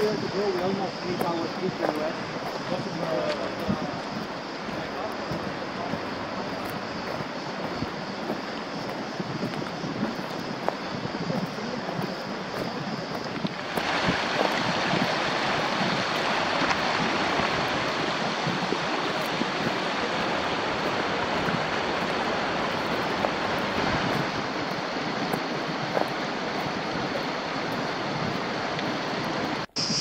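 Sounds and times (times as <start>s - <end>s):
stream rushing: 0.0s - 30.0s.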